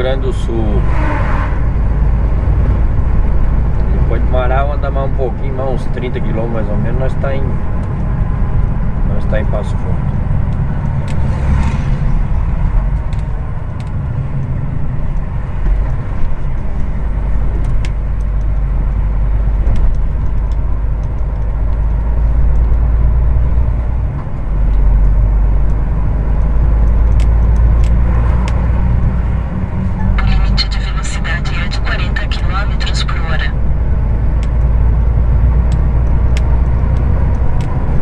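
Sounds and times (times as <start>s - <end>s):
truck engine drone: 0.0s - 38.0s.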